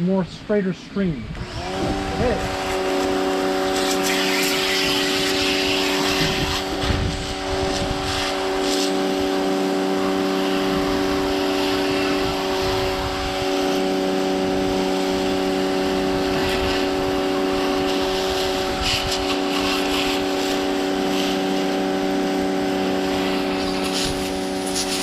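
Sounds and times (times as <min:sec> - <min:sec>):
electric pressure washer humming: 0:01.4 - 0:25.0
water jet hissing on siding: 0:01.8 - 0:25.0.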